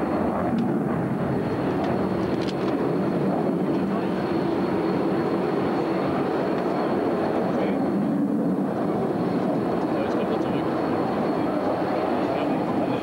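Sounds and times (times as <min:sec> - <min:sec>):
fighter jet engine noise: 0:00.0 - 0:13.0.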